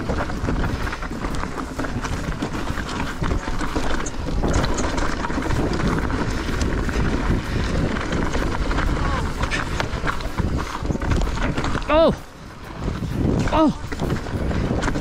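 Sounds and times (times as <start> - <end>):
bike rattling over rough trail: 0.0 - 15.0
tyres rumbling: 0.0 - 15.0.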